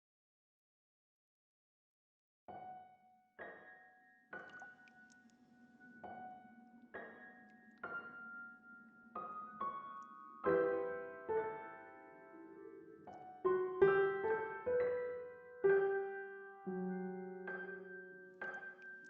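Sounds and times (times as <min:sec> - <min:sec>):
solo piano notes and chords: 0:02.5 - 0:19.0.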